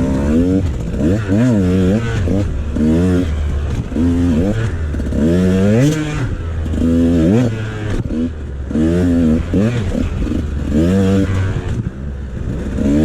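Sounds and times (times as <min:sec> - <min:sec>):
two-stroke dirt bike revving: 0:00.0 - 0:13.0.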